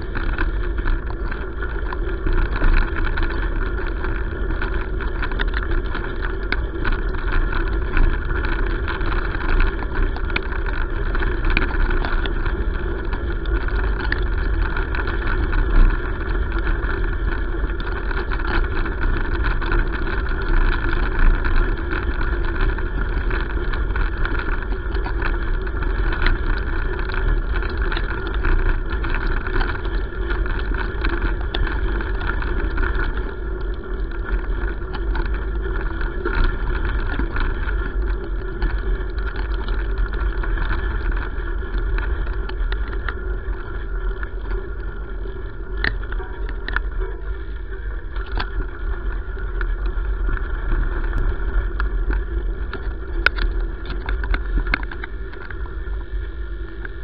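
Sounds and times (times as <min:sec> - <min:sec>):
small clicks and rattles: 0:00.0 - 0:57.0
wheels rumbling on gravel: 0:00.0 - 0:57.0.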